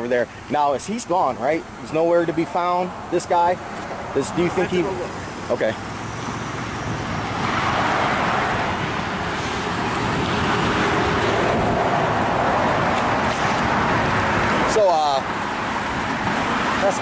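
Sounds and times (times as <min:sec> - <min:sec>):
cars passing on busy road: 0:00.0 - 0:17.0.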